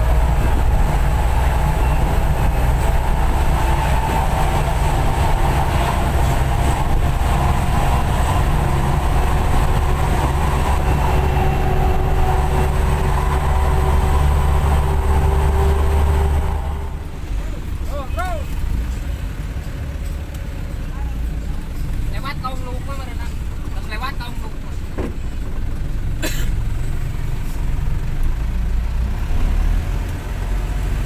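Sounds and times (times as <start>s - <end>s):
bus engine droning: 0.0s - 31.0s
road and cabin rumble: 0.0s - 31.0s.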